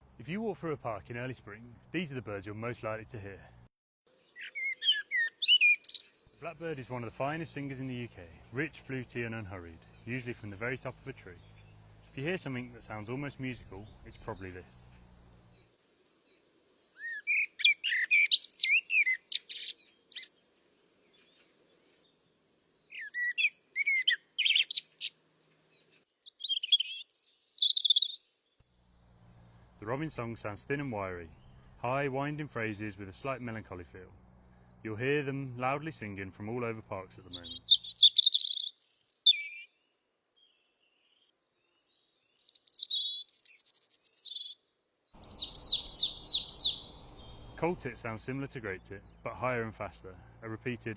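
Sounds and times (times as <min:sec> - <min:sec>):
blackbird singing: 0:04.1 - 0:20.5, 0:22.0 - 0:28.4, 0:29.4 - 0:33.9, 0:34.6 - 0:50.3.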